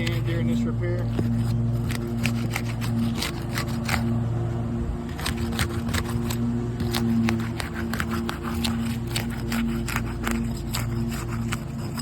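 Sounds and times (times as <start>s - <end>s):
scraping clicks and crackles: 0.0s - 4.1s, 5.1s - 12.0s
steady low hum: 0.0s - 12.0s.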